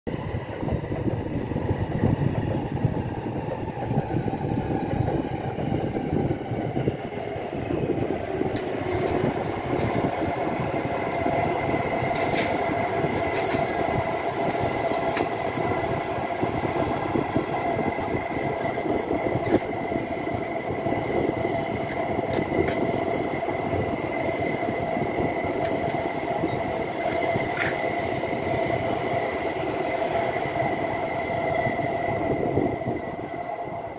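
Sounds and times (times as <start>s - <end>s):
train wheels rumbling on rail: 0.1s - 33.9s.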